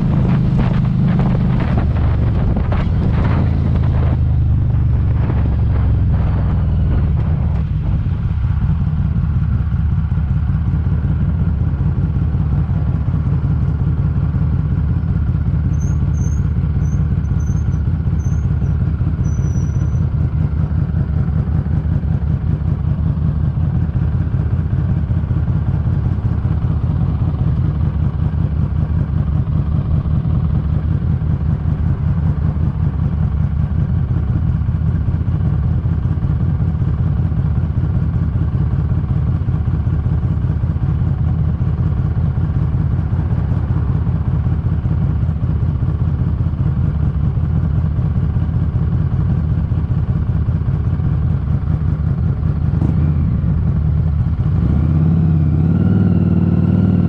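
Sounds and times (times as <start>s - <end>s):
motorcycle engine idling: 0.0s - 57.0s
wind: 0.0s - 57.0s.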